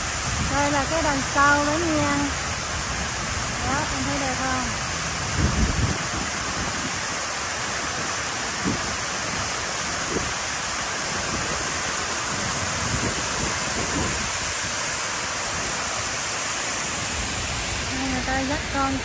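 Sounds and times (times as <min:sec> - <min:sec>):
rush of falling water: 0:00.0 - 0:19.0.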